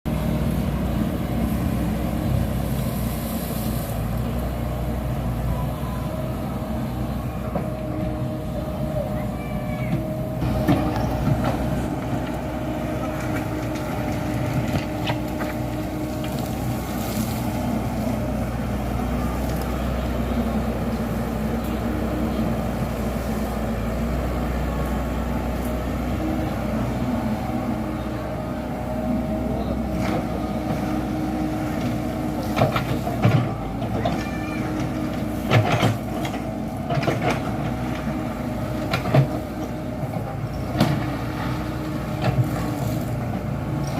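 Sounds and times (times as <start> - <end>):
excavator diesel engine running: 0.1 - 43.9.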